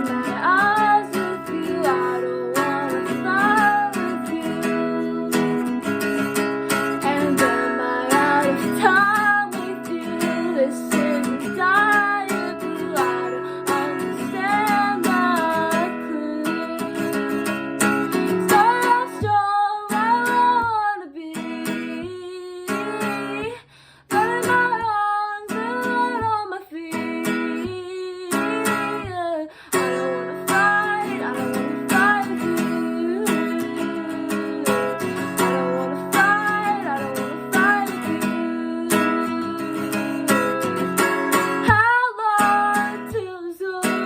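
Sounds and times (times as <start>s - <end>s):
acoustic guitar strumming: 0.0s - 23.5s, 24.1s - 44.0s
woman singing: 0.0s - 44.0s.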